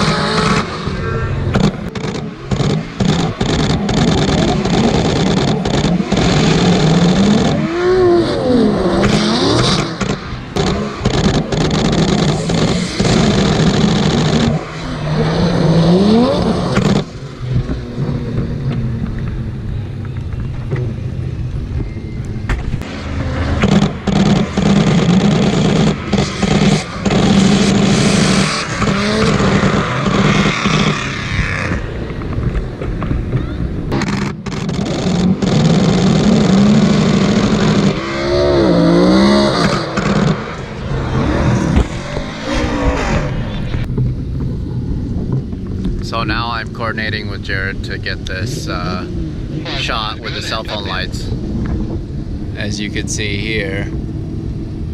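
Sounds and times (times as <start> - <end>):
car engines revving hard: 0.0 - 54.9.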